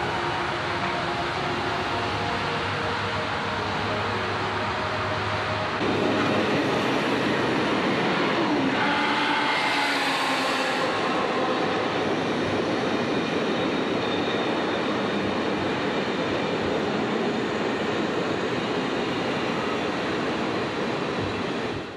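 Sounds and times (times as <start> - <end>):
train passing at speed: 0.0 - 21.9.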